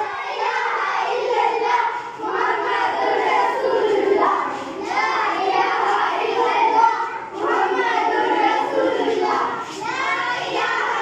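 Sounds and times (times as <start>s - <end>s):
children chanting and shouting: 0.0s - 11.0s.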